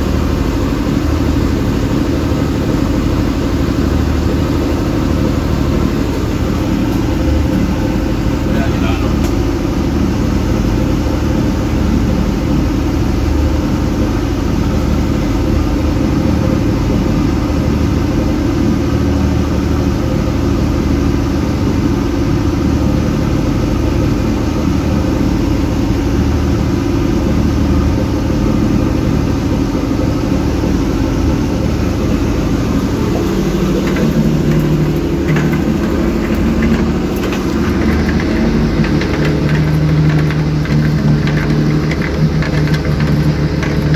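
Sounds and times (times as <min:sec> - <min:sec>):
boat engine running: 0:00.0 - 0:43.9
choppy water: 0:00.0 - 0:43.9.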